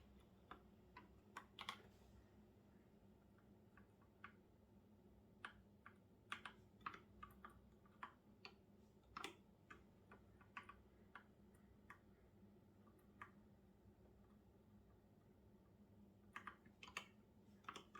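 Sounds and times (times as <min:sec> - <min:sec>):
faint low hum: 0:00.0 - 0:17.9.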